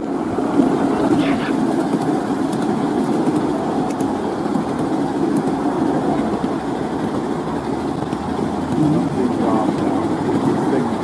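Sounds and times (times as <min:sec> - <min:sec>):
miniature train running on track: 0:00.0 - 0:11.0.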